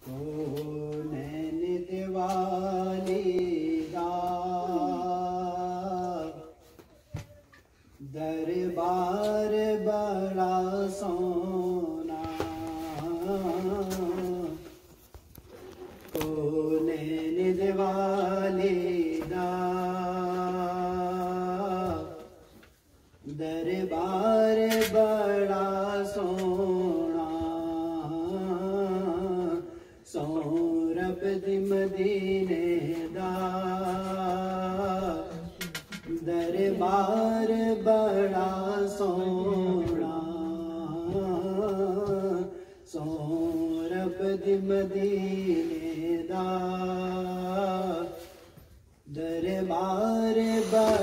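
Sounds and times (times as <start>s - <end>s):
man singing into microphone: 0.0s - 7.3s, 8.0s - 14.9s, 16.0s - 22.6s, 23.2s - 51.0s.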